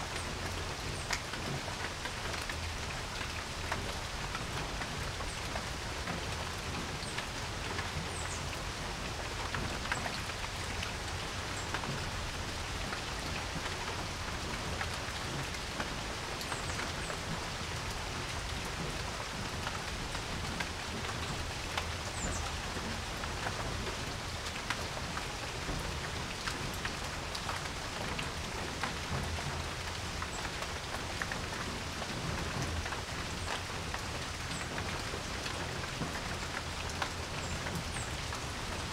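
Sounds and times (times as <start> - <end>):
raindrops ticking: 0.0 - 38.9
steady rain on a porch: 0.0 - 38.9.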